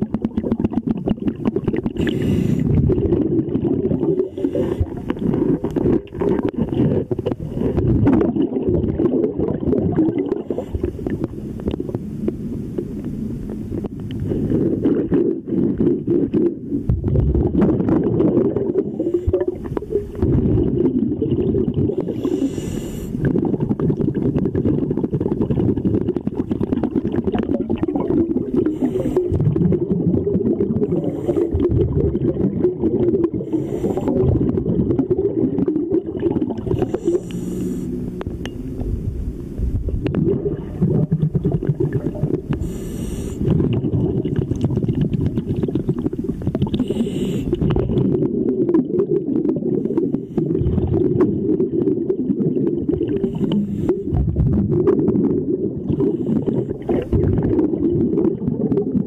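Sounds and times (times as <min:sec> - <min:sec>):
low underwater rumble: 0:00.0 - 0:22.5, 0:23.1 - 0:59.0
diver's breath bubbling: 0:00.0 - 0:59.0.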